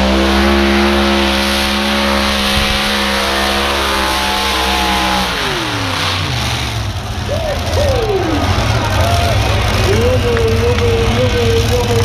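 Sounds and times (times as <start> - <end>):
tractor engine at high revs: 0.0 - 12.0.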